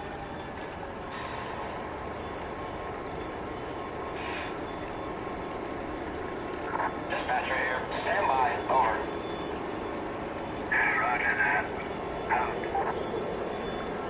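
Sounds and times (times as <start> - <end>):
model locomotive engine idling: 0.0 - 14.0.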